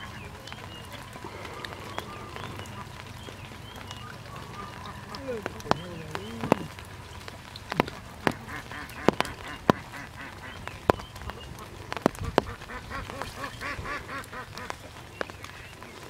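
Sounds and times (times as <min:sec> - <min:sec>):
ducks quacking: 0:00.0 - 0:16.0
sharp clicks and drips: 0:00.0 - 0:16.0.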